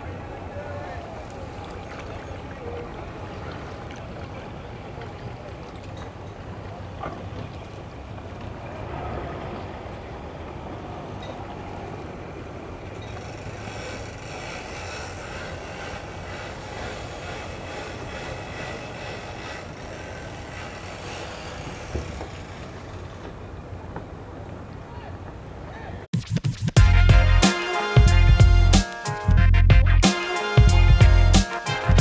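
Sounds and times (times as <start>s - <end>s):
boat engines rumbling: 0.0s - 26.1s.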